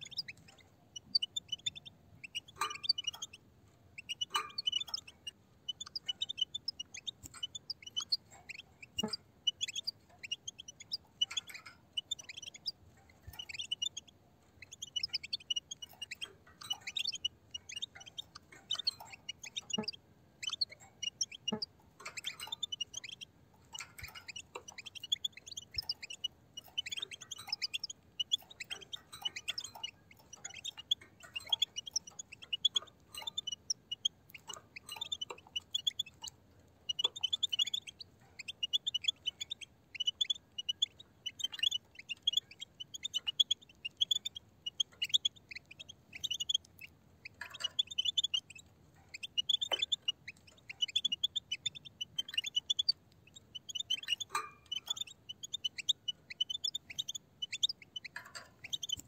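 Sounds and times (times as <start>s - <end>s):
flock of finches twittering: 0.0s - 3.4s, 4.0s - 59.0s.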